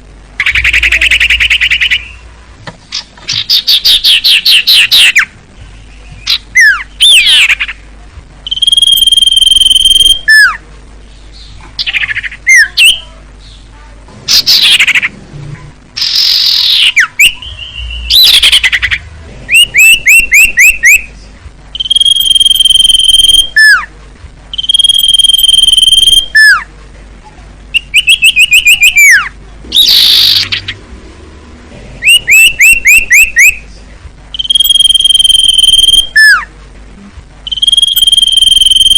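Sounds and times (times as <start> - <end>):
songbird singing: 0.4 - 15.2, 16.0 - 23.9, 24.5 - 26.7, 27.7 - 31.2, 31.9 - 36.5, 37.4 - 38.9.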